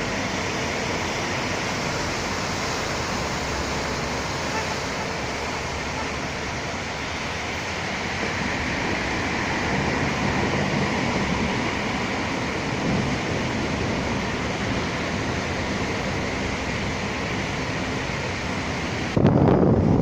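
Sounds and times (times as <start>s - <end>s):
steady rain: 0.0s - 20.0s
traffic on wet road: 0.0s - 20.0s.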